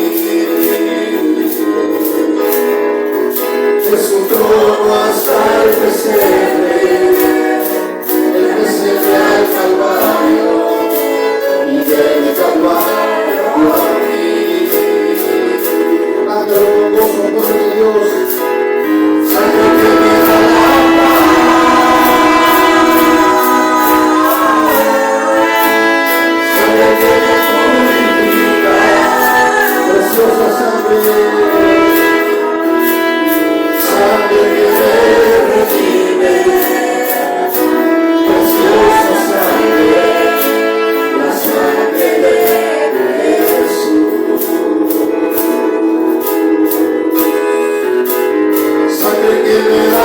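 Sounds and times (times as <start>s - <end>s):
person singing: 0.0s - 2.8s, 3.8s - 50.0s
church worship music: 0.0s - 50.0s.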